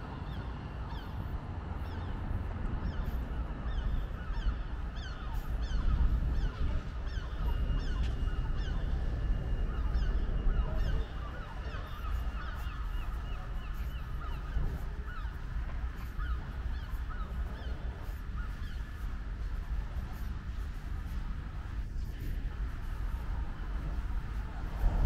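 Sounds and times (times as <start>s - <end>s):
flock of birds calling: 0.0s - 25.0s.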